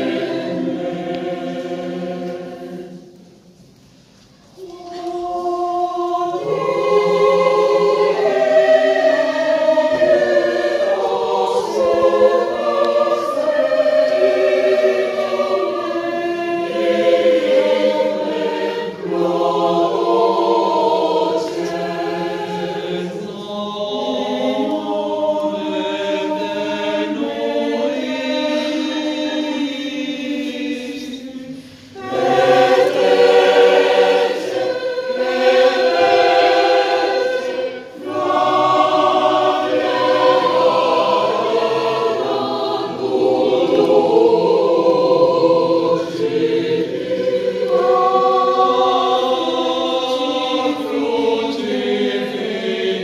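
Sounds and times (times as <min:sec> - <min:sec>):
choir singing unaccompanied: 0:00.0 - 0:03.6, 0:04.4 - 0:53.0.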